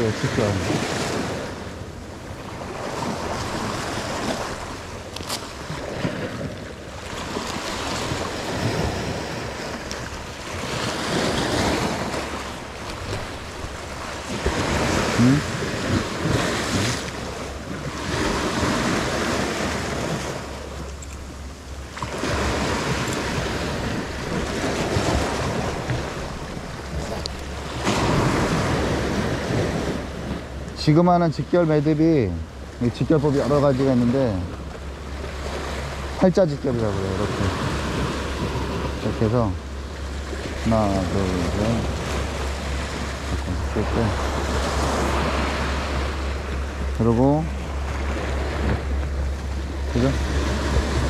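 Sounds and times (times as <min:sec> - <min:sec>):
surf washing against rocks: 0:00.0 - 0:51.0.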